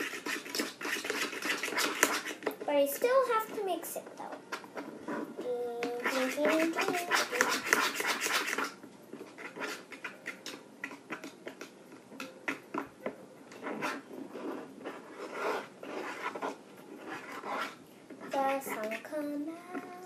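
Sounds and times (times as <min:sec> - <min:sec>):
paintbrush scraping and tapping bowl: 0:00.0 - 0:03.7, 0:04.3 - 0:20.0
paint squelching: 0:00.0 - 0:20.0.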